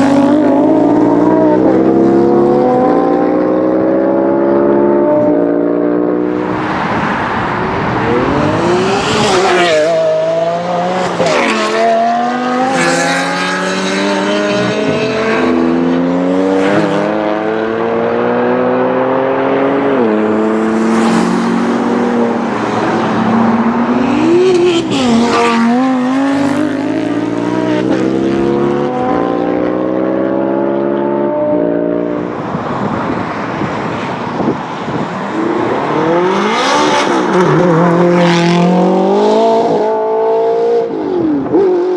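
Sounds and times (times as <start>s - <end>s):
car engines accelerating hard: 0.0s - 41.9s.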